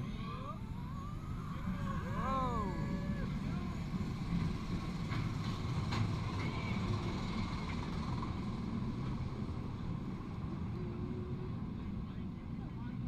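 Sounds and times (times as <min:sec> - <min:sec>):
roller coaster lift rumble: 0:00.0 - 0:13.0.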